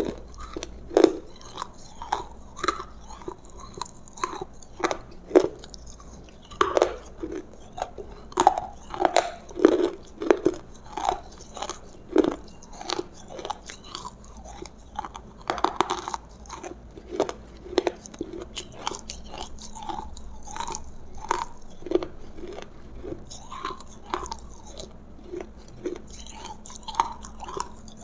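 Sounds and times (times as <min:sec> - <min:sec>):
chewing crunchy food: 0:00.0 - 0:28.0.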